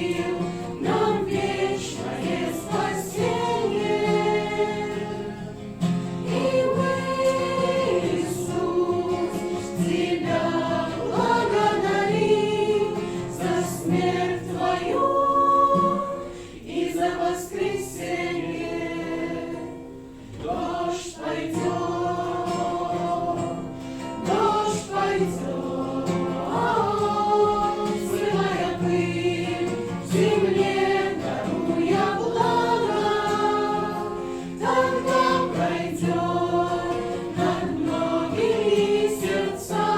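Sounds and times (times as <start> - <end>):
choir singing a worship song: 0.0 - 39.9.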